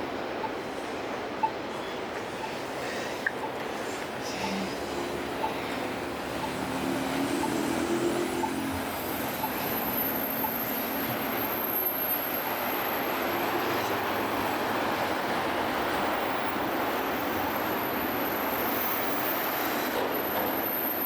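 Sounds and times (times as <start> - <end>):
street traffic: 0.0 - 21.0
wind: 0.0 - 21.0.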